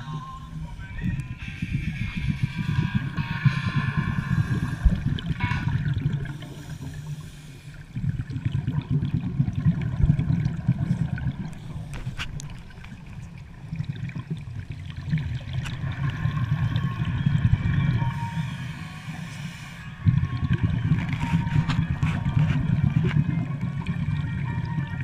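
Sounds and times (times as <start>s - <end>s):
underwater bubbling and gurgling: 0.0s - 25.0s.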